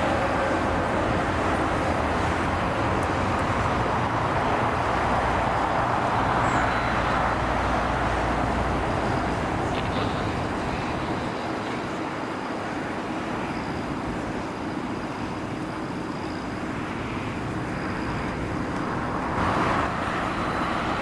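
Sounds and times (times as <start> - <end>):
jet airliner engine rush: 0.0 - 21.0.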